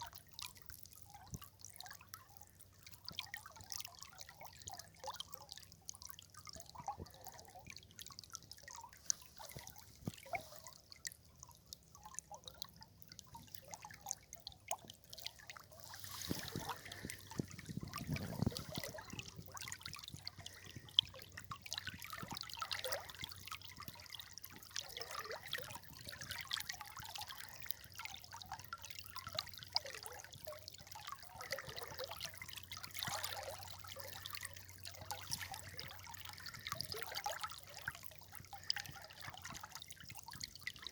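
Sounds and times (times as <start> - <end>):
river water trickling: 0.0 - 40.9.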